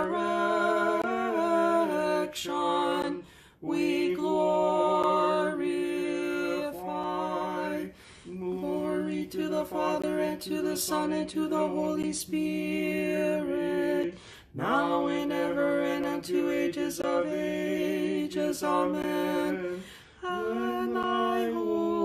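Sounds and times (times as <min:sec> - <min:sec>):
voices singing slow chant: 0:00.0 - 0:22.0.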